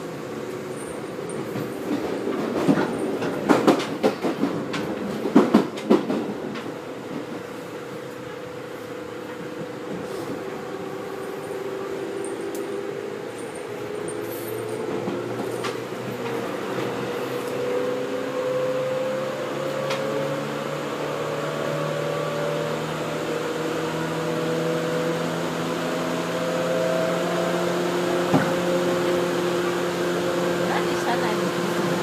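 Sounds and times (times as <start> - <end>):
train running rumble: 0.0 - 32.0
train traction motors whining: 0.0 - 32.0.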